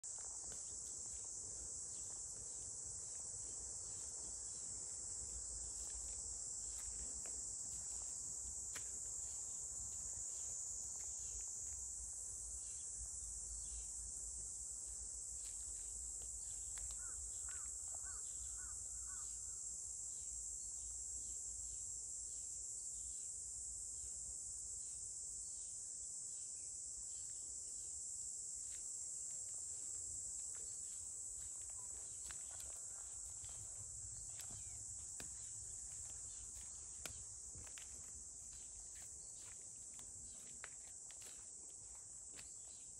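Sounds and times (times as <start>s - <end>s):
insect chorus: 0.0s - 42.9s.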